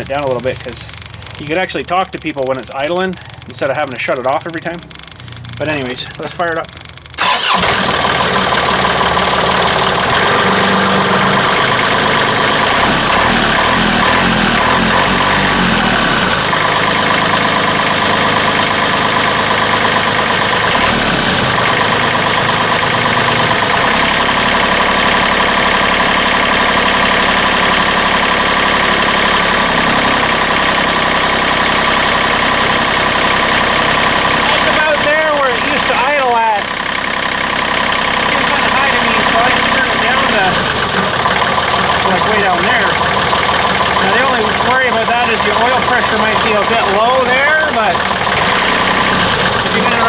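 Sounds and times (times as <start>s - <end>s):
tractor diesel engine idling: 0.0s - 50.0s.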